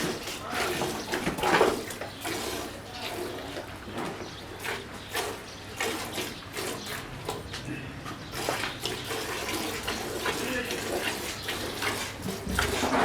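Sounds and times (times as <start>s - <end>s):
milk squirting into a pail: 0.0s - 7.4s, 8.3s - 13.0s.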